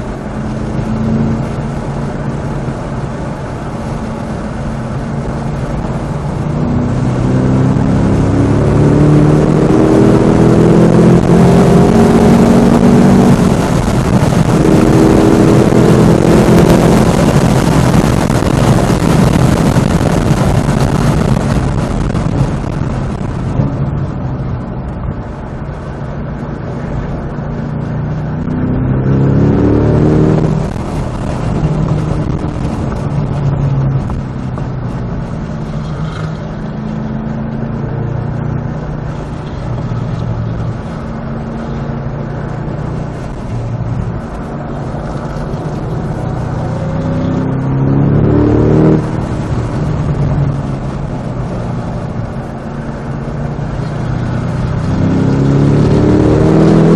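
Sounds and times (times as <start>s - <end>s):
car engine revving hard: 0.0s - 24.7s, 27.2s - 56.9s.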